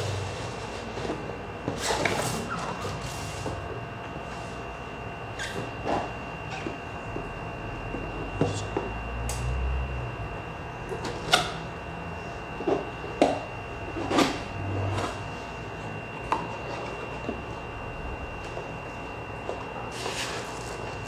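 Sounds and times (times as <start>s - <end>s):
thin high whine: 2.2s - 21.0s.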